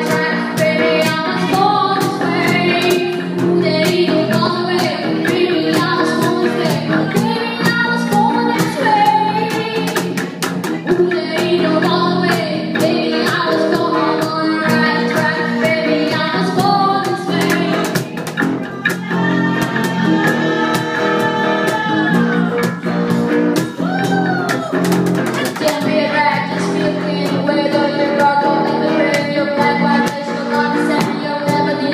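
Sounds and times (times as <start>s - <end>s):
drum kit beat: 0.0s - 31.9s
guitar: 0.0s - 31.9s
person singing: 0.0s - 31.9s.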